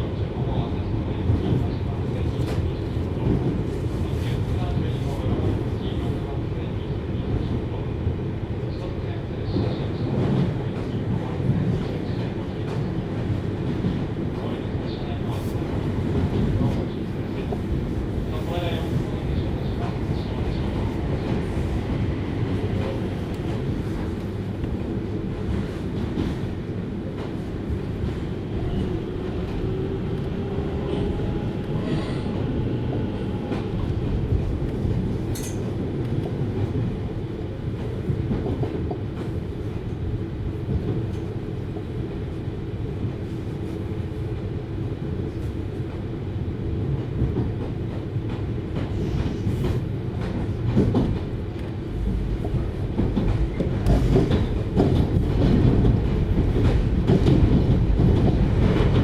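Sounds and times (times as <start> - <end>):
train rumble from inside: 0.0 - 59.0.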